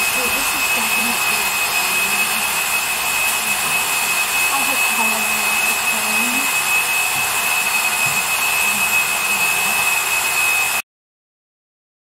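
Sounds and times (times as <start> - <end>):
high machine whine: 0.0 - 10.8.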